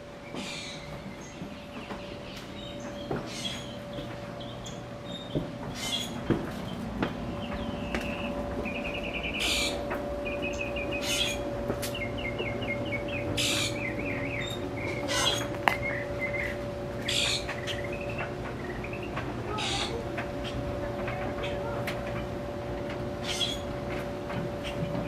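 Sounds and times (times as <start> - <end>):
birds chirping: 0.0 - 25.0
faint steady hum: 0.0 - 25.0.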